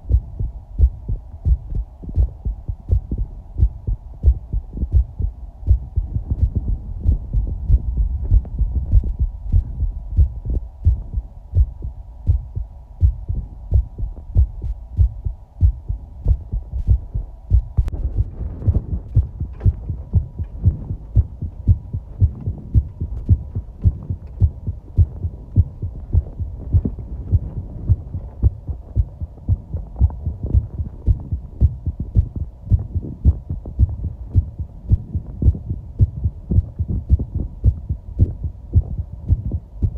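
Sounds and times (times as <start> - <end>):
faint steady hum: 0.0 - 39.9
heartbeat thumps: 0.0 - 39.9.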